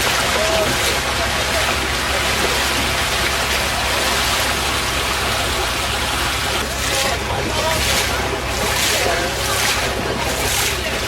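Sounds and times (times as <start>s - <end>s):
rushing flood water: 0.0s - 11.0s.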